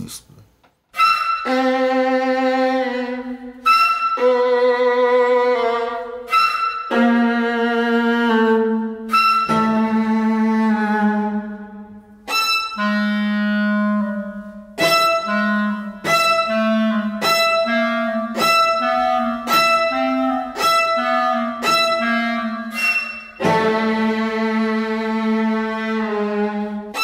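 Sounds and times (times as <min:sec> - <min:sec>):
instrumental music with held chords: 0:00.7 - 0:27.0.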